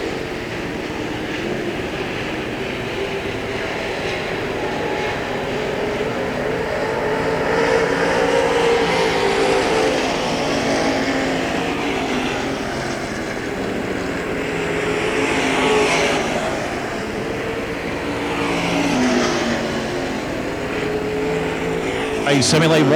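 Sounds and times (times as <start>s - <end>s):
race car engines passing: 0.0s - 22.9s.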